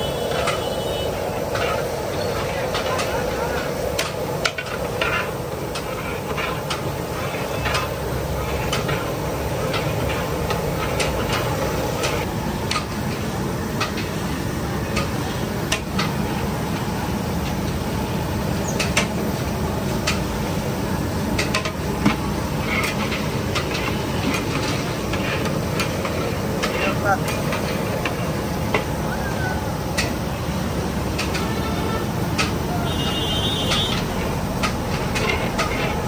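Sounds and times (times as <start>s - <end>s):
street and kitchen noise: 0.0s - 36.0s.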